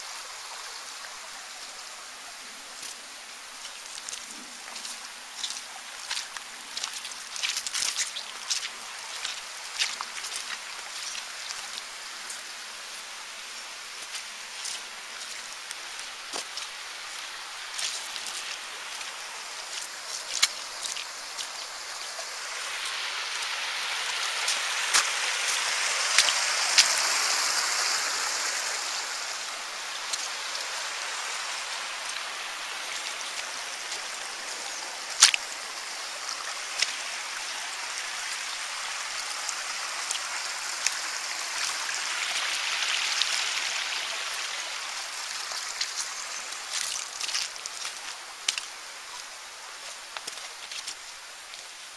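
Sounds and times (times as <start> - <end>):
stream running over stones: 0.0 - 51.9.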